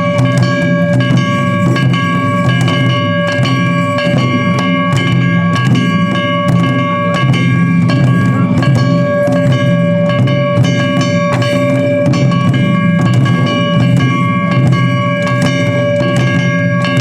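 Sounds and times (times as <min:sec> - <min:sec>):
drums and percussion struck: 0:00.0 - 0:17.0.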